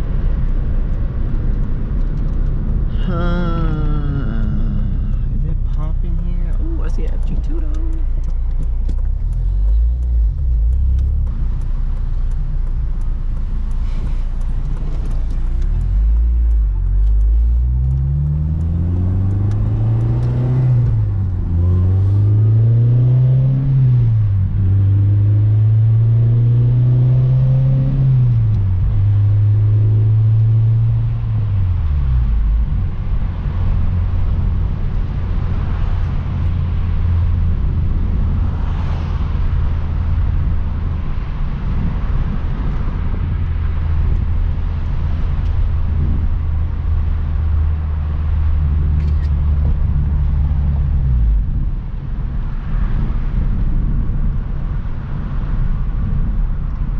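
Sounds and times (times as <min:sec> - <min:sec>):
car engine and exhaust: 0:00.0 - 0:56.9.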